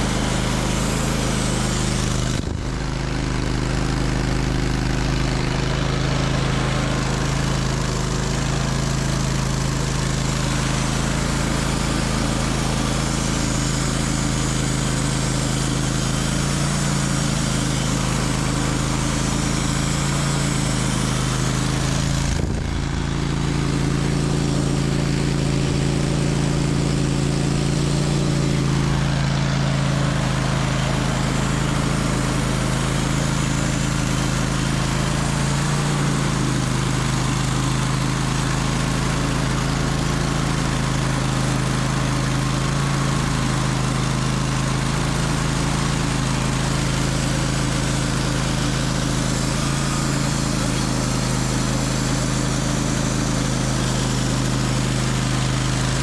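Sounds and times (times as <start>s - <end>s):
saw cutting through log: 0.0s - 56.0s
sawmill engine running: 0.0s - 56.0s.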